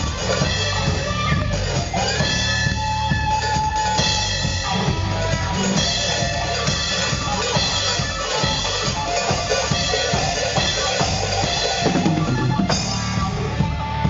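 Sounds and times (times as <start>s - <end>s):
drum kit beat: 0.0s - 14.0s
rock music: 0.0s - 14.0s
sustained guitar notes: 0.0s - 14.0s.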